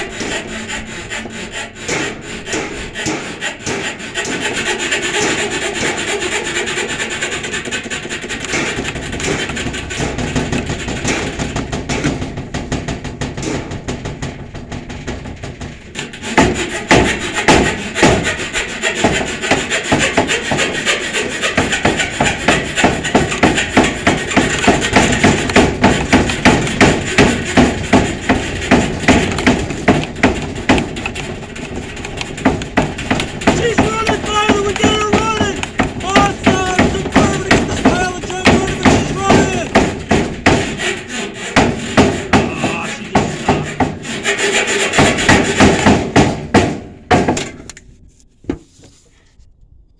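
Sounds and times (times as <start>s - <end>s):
saw cutting wood: 0.0s - 12.3s, 16.0s - 46.5s.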